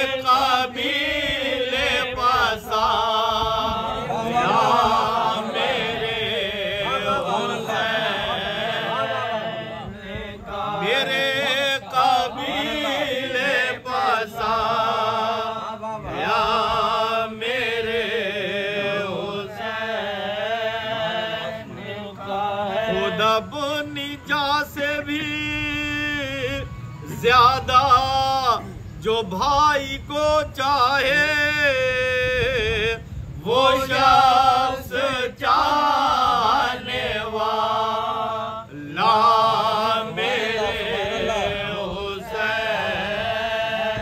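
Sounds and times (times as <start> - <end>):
men chanting: 0.0 - 44.0.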